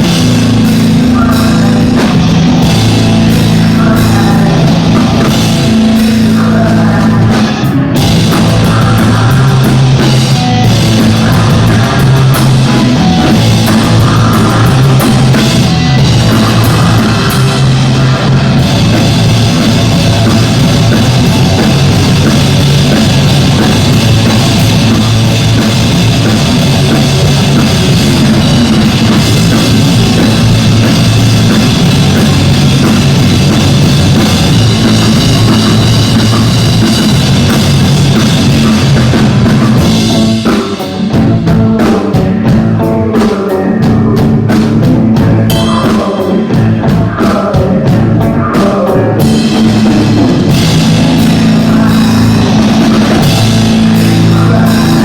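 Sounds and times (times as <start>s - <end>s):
driving drum kit: 0.0s - 55.0s
live rock band playing: 0.0s - 55.0s
steady bass line: 0.0s - 55.0s.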